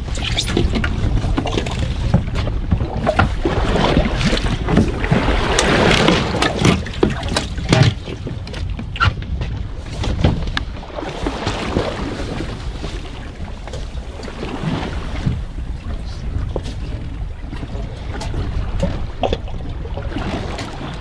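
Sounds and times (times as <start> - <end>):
boat rumble and water wash: 0.0 - 21.0
wind buffeting microphone: 0.0 - 21.0.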